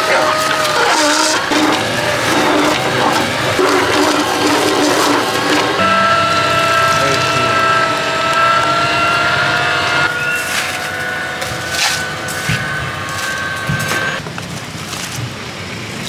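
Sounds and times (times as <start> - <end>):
electric blender motor whining: 0.0 - 14.2.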